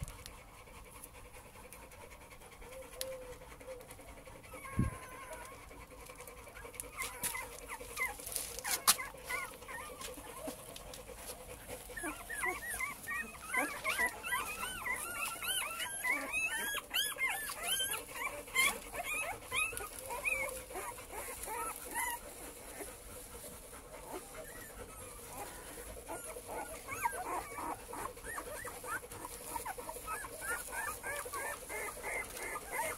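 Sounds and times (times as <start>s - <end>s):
puppies whimpering and squeaking: 0.0s - 32.9s.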